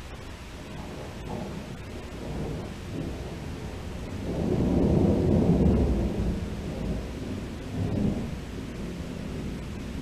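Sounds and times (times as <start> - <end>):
steady rain: 0.0 - 10.0
thunder rumbling: 0.0 - 10.0.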